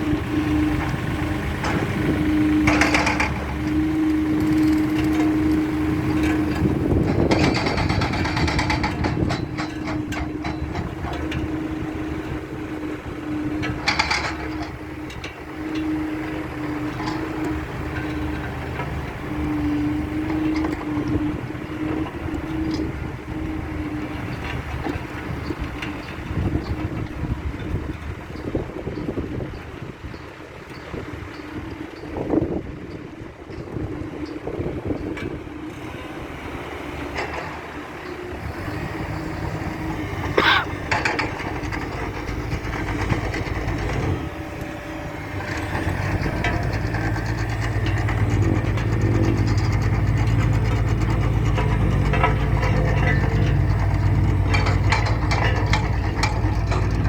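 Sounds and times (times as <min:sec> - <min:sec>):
road roller engine rumbling: 0:00.0 - 0:57.0.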